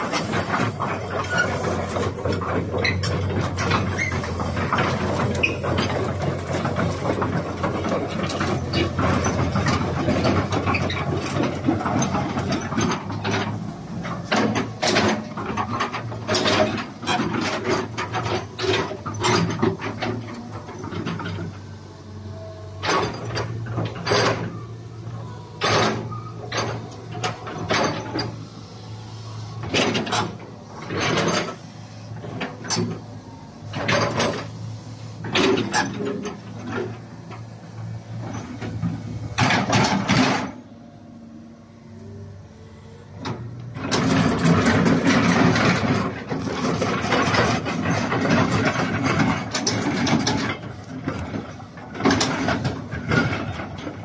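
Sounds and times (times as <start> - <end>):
excavator diesel engine humming: 0.0 - 54.0.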